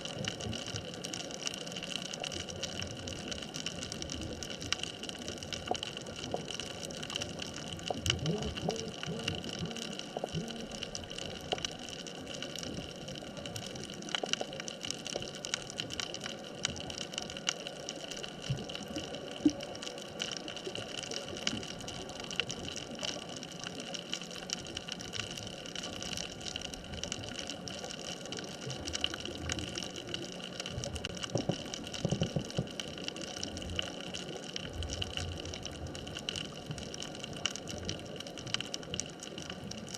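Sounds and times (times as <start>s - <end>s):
bubbling gushes: 0.0s - 39.9s.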